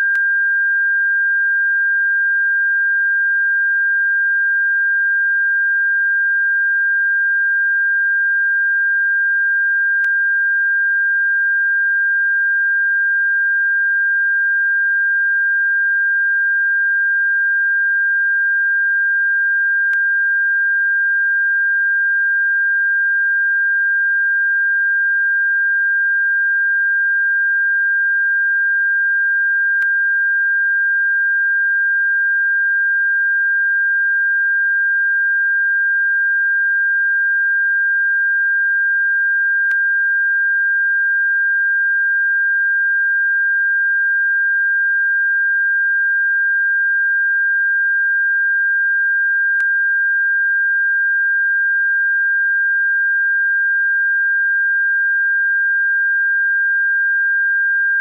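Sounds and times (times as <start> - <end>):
high-pitched sine tone: 0.0 - 58.0.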